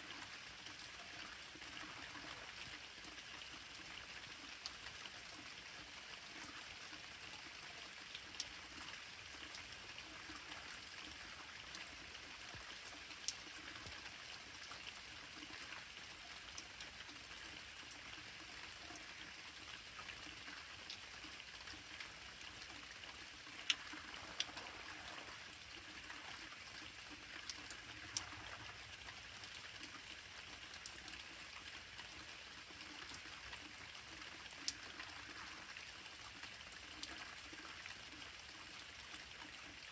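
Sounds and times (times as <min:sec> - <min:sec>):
light rain falling: 0:00.0 - 0:39.9
raindrops ticking close by: 0:00.0 - 0:39.9.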